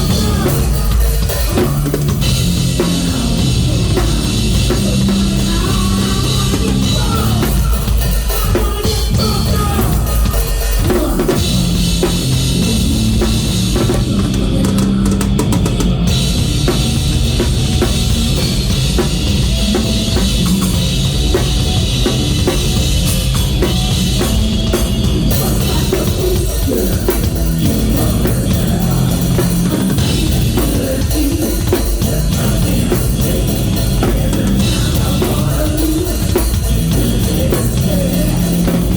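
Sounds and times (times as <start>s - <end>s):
drum kit: 0.0s - 38.9s
rock band playing live: 0.0s - 38.9s.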